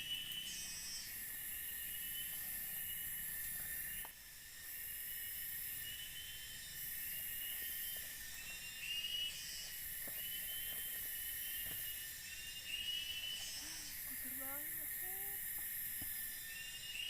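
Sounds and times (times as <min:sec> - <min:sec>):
insect chirping phrases: 0:00.0 - 0:17.0
shrill insect drone: 0:00.0 - 0:17.0.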